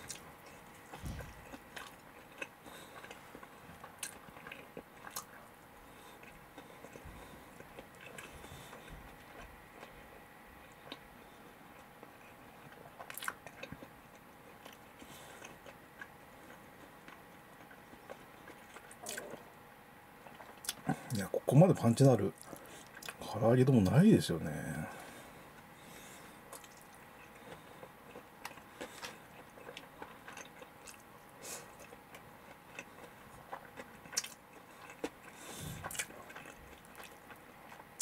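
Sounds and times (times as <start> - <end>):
person chewing food: 0.0 - 21.2, 22.3 - 23.2, 24.9 - 38.0.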